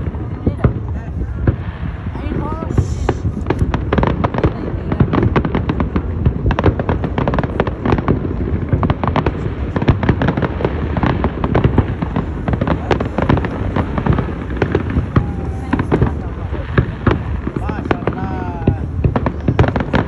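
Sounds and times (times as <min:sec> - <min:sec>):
fireworks bangs and crackles: 0:00.0 - 0:20.0
low rumble of booms: 0:00.0 - 0:20.0.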